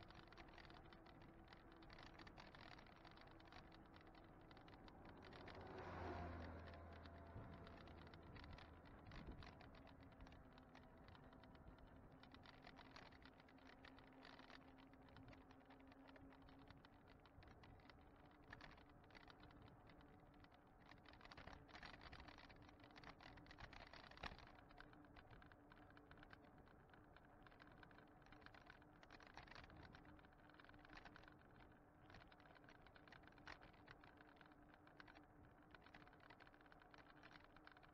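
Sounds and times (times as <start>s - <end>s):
camera rattling and ticking: 0.0s - 37.9s.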